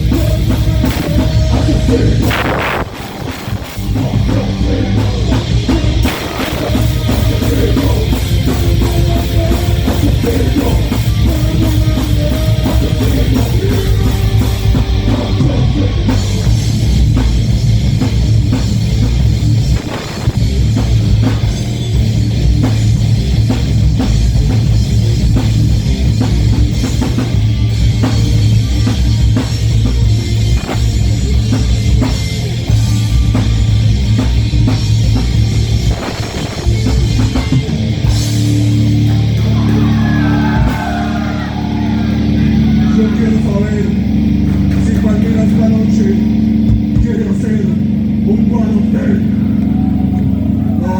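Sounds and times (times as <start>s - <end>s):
distorted electric guitars: 0.0s - 50.9s
drum kit: 0.0s - 50.9s.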